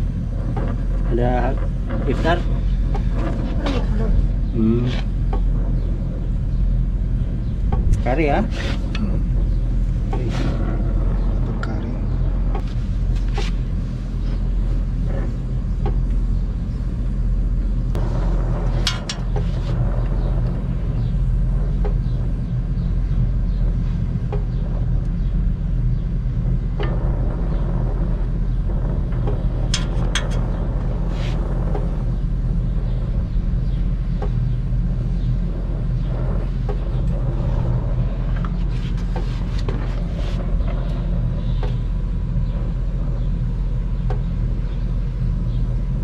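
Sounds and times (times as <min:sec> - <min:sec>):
gas torch flame rumbling: 0:00.0 - 0:46.0.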